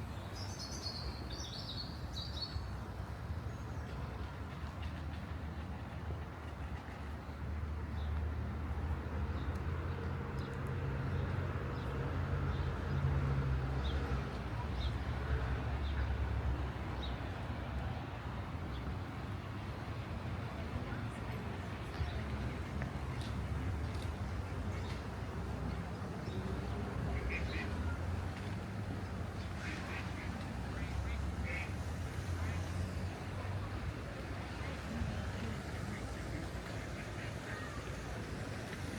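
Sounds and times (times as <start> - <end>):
rumble of passing traffic: 0.0 - 38.9.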